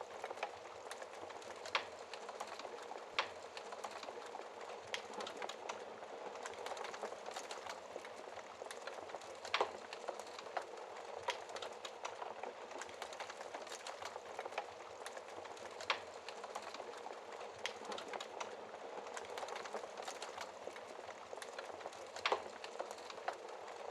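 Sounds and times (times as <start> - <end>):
logs burning with crackles and pops: 0.0 - 23.9.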